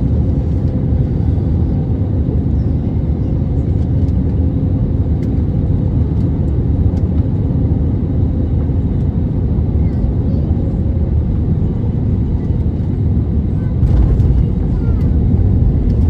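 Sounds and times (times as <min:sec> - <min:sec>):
low rumble of engines and airflow: 0:00.0 - 0:16.0.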